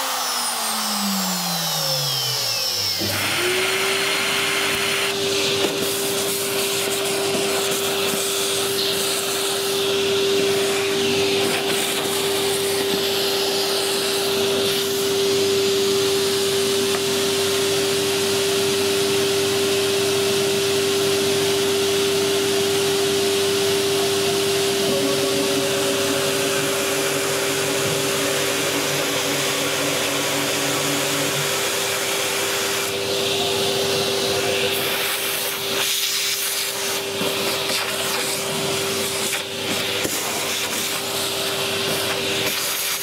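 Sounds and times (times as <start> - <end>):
cutter milling metal hiss: 0.0 - 17.7, 20.5 - 43.0
router spindle motor whining: 0.0 - 40.2.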